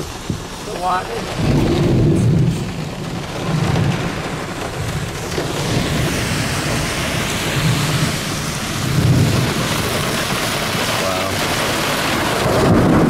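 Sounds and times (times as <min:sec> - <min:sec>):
heavy rain on car roof: 0:00.0 - 0:13.0
low thunder rumbling: 0:01.2 - 0:13.0.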